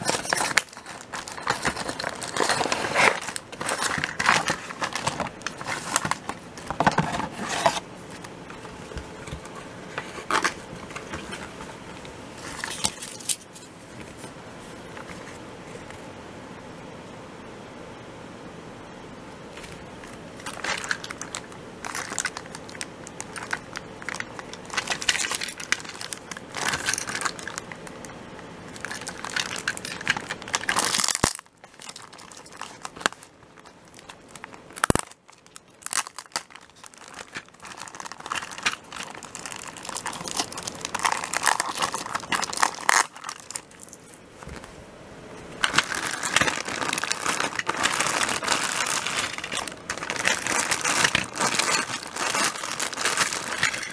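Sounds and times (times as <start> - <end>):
plastic wrapping crinkling: 0.0 - 14.3, 19.5 - 44.8, 45.6 - 53.9.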